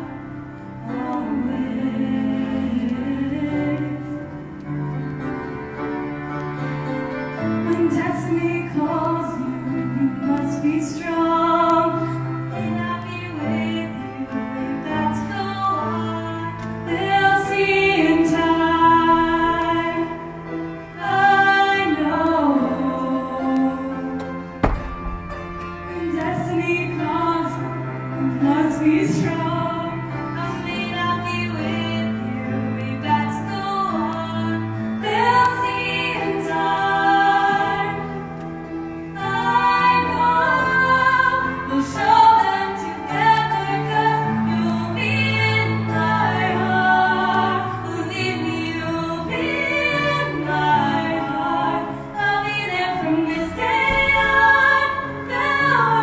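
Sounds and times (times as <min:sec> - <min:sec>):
two women singing a duet: 0:00.0 - 0:04.7, 0:07.5 - 0:56.0
grand piano accompaniment: 0:00.0 - 0:56.0.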